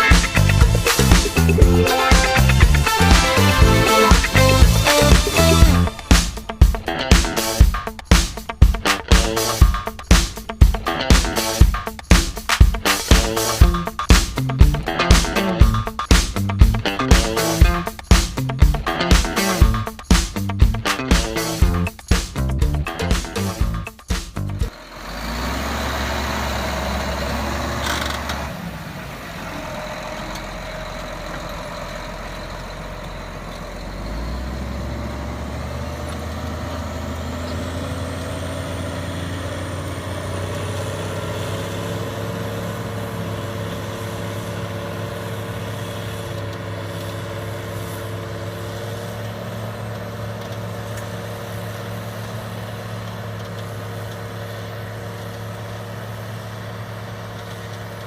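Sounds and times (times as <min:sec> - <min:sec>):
heavy machine engine humming: 0:00.0 - 0:11.1, 0:13.1 - 0:58.0.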